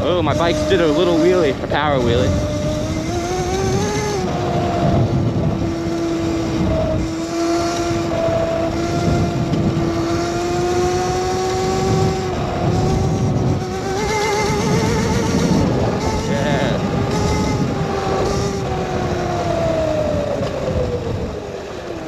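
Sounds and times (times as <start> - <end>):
electric motor whining: 0.0 - 22.0
wind on microphone: 0.0 - 22.0.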